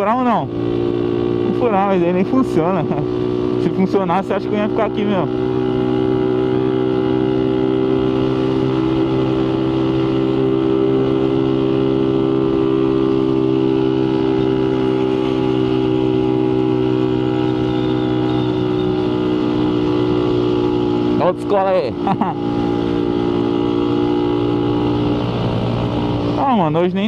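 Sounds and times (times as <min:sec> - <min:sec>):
motorcycle engine running steadily: 0:00.0 - 0:27.0.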